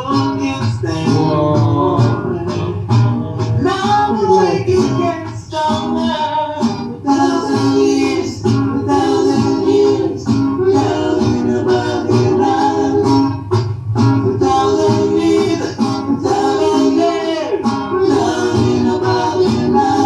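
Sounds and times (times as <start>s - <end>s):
person singing: 0.0s - 20.0s
reggae song: 0.0s - 20.0s.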